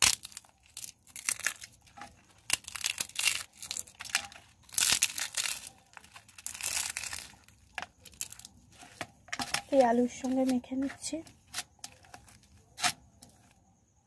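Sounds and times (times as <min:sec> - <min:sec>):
crisp shells crunching by hand: 0:00.0 - 0:13.5.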